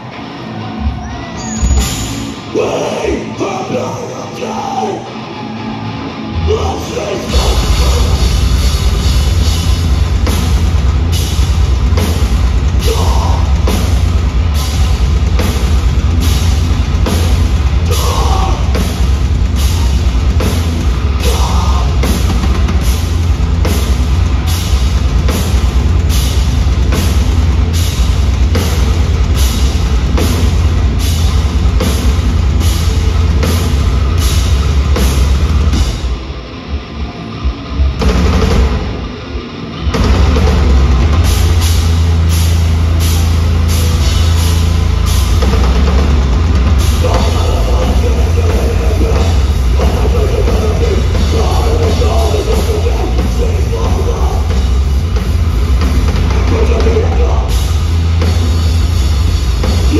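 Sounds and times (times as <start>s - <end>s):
hardcore band playing live: 0.0s - 59.9s.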